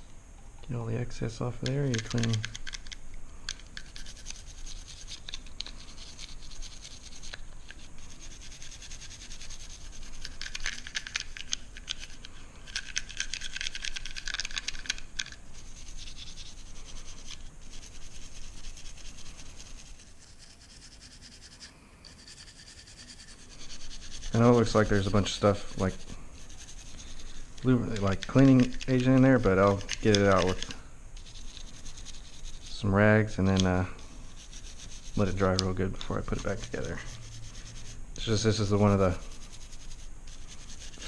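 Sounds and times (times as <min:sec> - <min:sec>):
toothbrush scrubbing metal: 0:01.7 - 0:02.9, 0:03.5 - 0:41.0.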